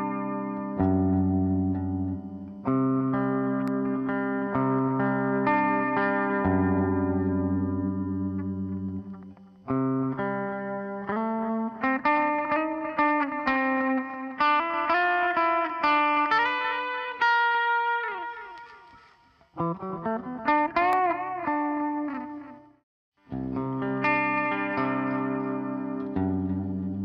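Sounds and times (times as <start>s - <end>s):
clean electric guitar: 0.0s - 27.0s.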